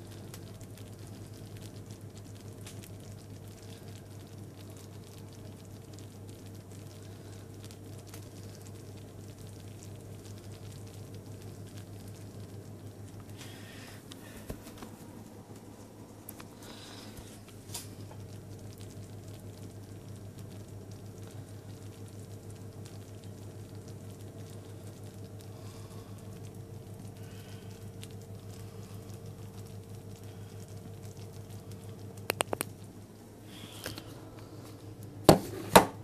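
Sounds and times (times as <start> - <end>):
low hum with fast flutter: 0.0 - 35.8
jam simmering in a saucepan: 0.0 - 36.0.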